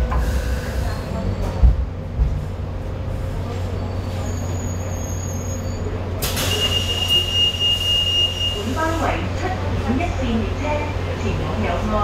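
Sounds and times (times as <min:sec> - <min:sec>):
light rail car hum: 0:00.0 - 0:12.0.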